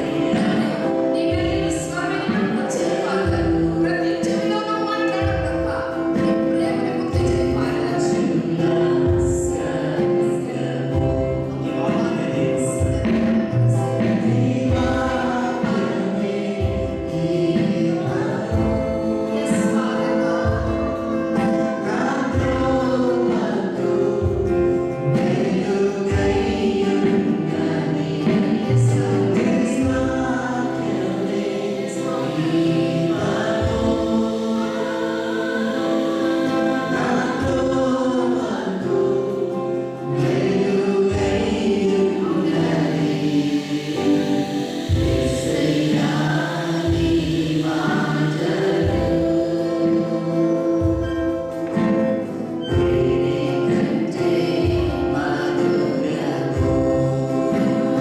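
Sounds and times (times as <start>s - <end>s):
choir singing gospel song: 0.0s - 58.0s
held accompaniment chords: 0.0s - 58.0s.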